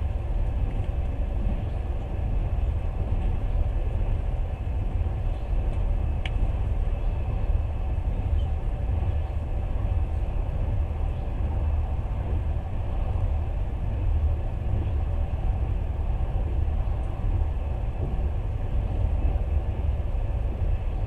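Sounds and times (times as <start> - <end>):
train rumbling from inside carriage: 0.0 - 21.0.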